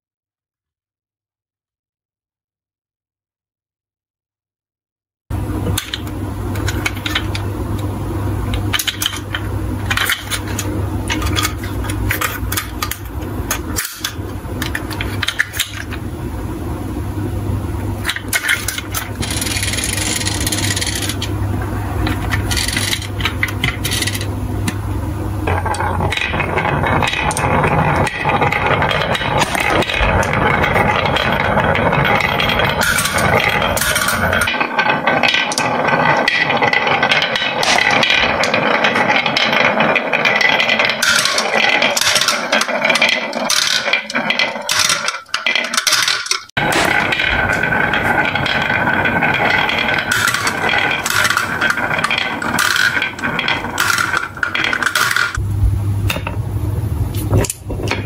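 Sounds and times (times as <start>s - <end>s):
marbles rolling on wooden run: 5.7s - 7.8s, 8.4s - 16.1s, 18.0s - 24.8s, 25.4s - 55.4s.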